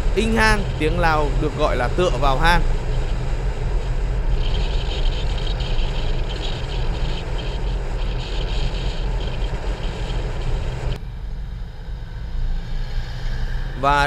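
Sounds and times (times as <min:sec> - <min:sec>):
wind noise: 0:00.0 - 0:14.0.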